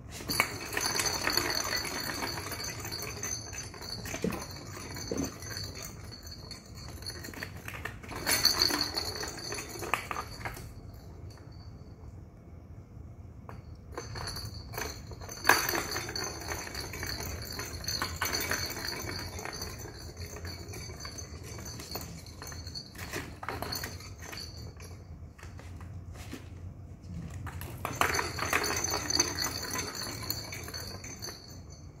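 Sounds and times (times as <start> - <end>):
ball rattling around plastic track: 0.1 - 10.8, 13.9 - 25.7, 27.3 - 31.7
high jingling ring: 0.1 - 12.6, 13.3 - 26.2, 27.0 - 32.0.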